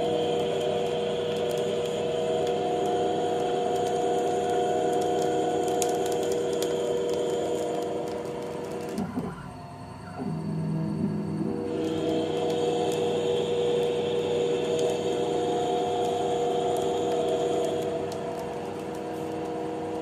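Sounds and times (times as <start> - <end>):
lathe turning metal whine: 0.0 - 20.0.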